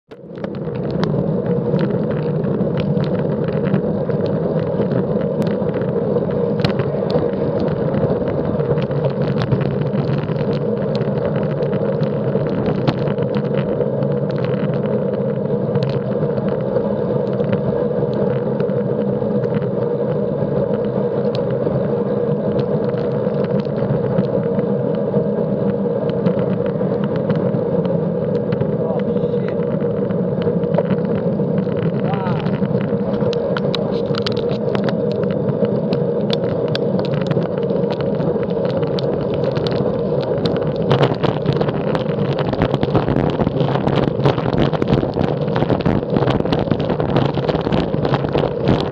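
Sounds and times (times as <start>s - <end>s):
road noise: 0.1s - 48.9s
sharp clicks and rattles: 0.1s - 48.9s
wind buffeting microphone: 0.3s - 48.9s.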